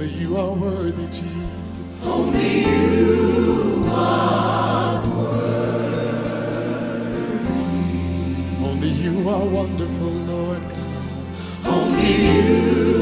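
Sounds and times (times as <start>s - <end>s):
deep bass: 0.0s - 13.0s
gospel choir singing: 0.0s - 13.0s.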